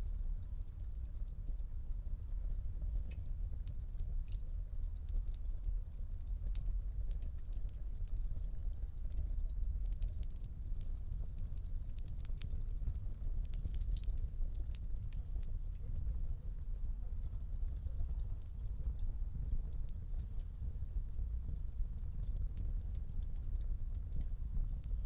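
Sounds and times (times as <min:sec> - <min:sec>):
fire crackling and popping: 0:00.0 - 0:25.0
wood fire rumbling: 0:00.0 - 0:25.0.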